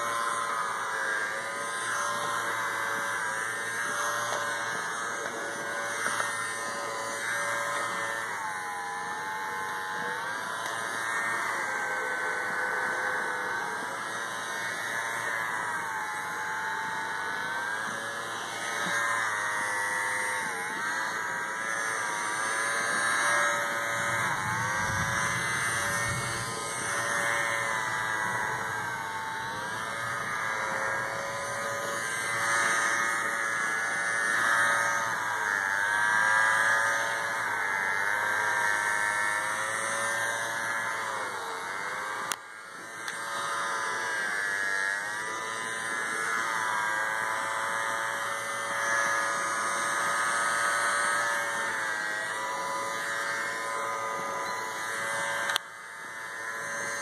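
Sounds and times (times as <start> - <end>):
vacuum motor whine: 0.0 - 57.0.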